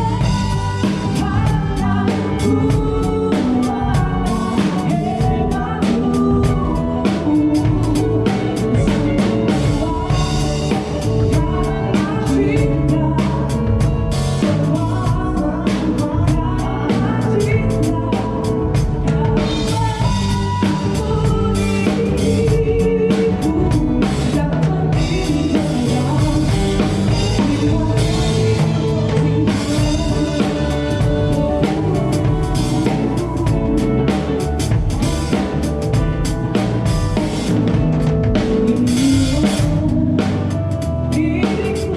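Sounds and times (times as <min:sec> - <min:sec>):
bass: 0:00.0 - 0:41.9
drum kit beat: 0:00.0 - 0:41.9
keyboard or guitar: 0:00.0 - 0:41.9
woman singing: 0:00.0 - 0:41.9.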